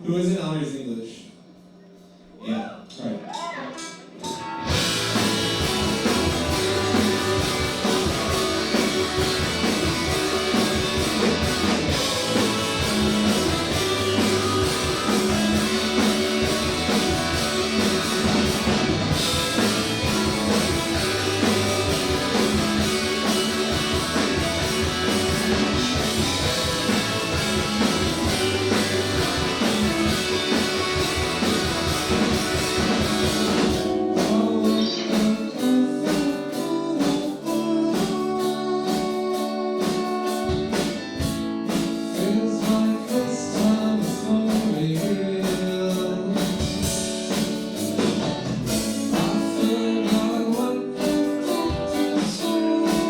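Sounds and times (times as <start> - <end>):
live rock band playing: 3.6 - 53.0.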